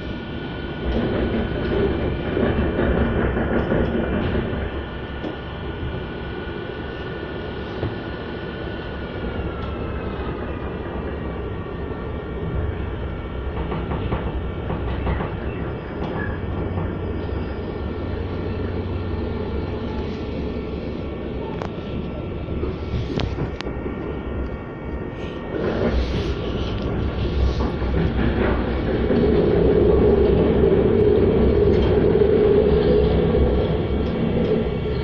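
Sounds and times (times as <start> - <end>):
train rumble with whine: 0.0 - 35.0.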